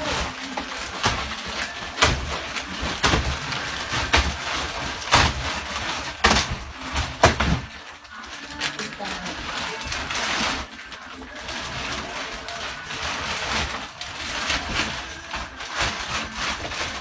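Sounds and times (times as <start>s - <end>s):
mattress wrapping rustling: 0.0s - 17.0s.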